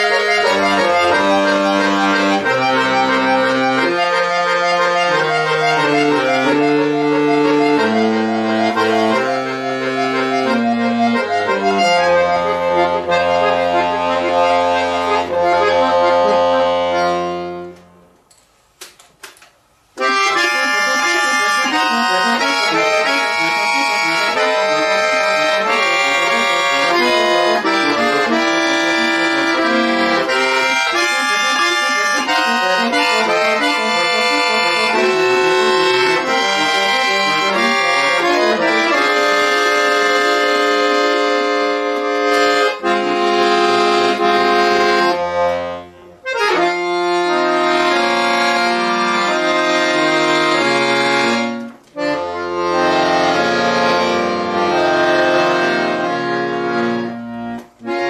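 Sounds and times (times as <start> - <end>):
button accordion playing: 0.0 - 18.2, 19.9 - 58.0.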